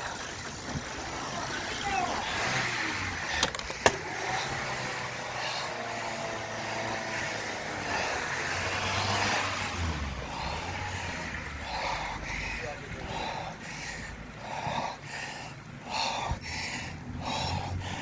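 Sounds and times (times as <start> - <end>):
outdoor noise: 0.0 - 18.0
vehicle engine running: 0.3 - 18.0.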